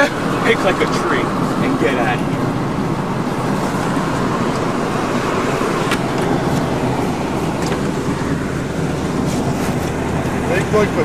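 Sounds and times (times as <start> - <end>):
road and engine noise in car: 0.0 - 11.0.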